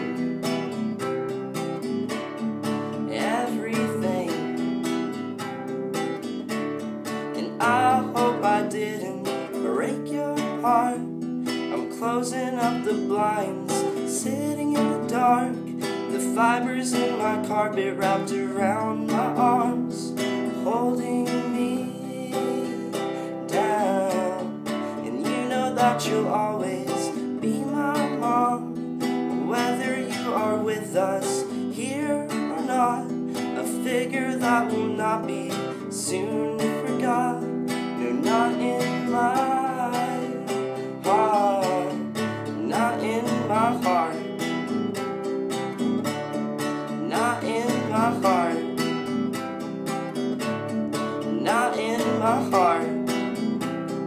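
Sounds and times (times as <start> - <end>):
man singing: 0.0 - 0.3, 2.8 - 5.2, 7.2 - 54.0
strummed acoustic guitar: 0.0 - 54.0.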